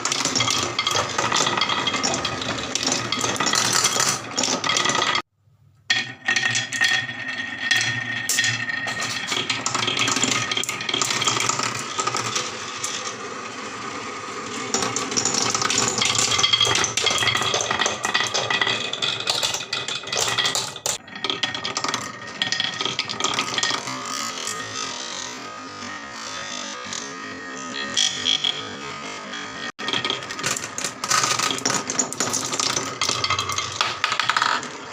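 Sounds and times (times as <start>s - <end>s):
marbles rattling down wooden run: 0.0s - 5.3s, 5.9s - 25.4s, 29.7s - 34.9s.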